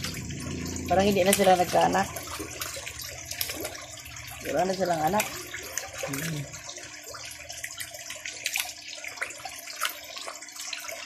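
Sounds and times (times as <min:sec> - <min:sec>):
sharp water splashes: 0:00.0 - 0:11.0
water splashing into pond: 0:00.0 - 0:11.0.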